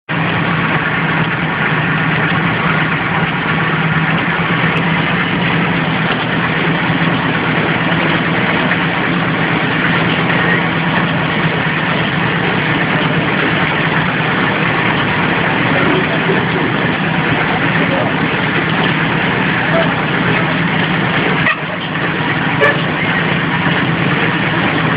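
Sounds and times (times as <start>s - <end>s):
low hum: 0.1s - 24.9s
packing machine running: 0.1s - 24.9s.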